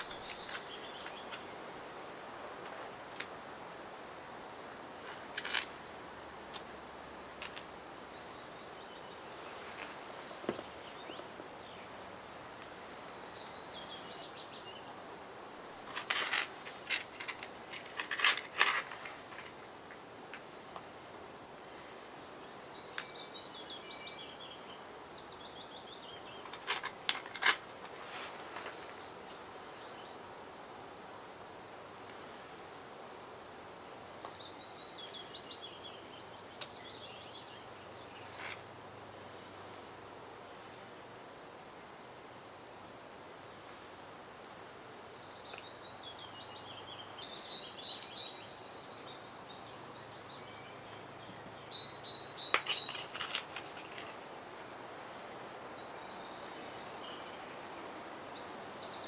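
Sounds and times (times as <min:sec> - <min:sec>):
songbird chirping: 0:00.0 - 0:03.3, 0:07.4 - 0:30.3, 0:33.1 - 0:40.1, 0:43.5 - 0:59.0
outdoor background hiss: 0:00.0 - 0:59.0.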